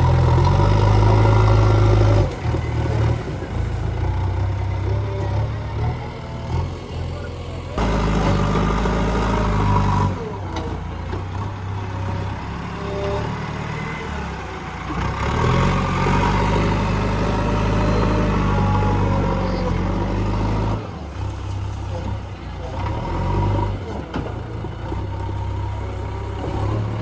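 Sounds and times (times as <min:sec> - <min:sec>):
diesel engine working under load: 0:00.0 - 0:27.0.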